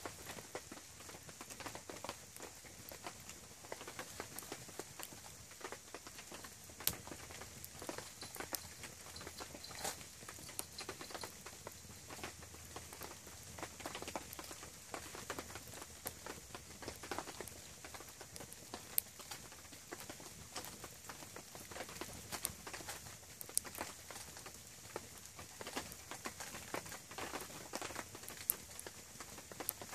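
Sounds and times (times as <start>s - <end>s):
campfire crackling: 0.0s - 29.9s.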